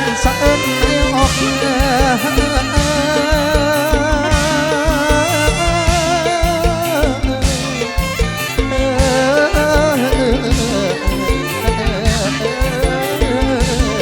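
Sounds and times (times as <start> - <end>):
bass: 0.0 - 14.0
steady drum beat: 0.0 - 14.0
wavering lead melody: 0.0 - 14.0.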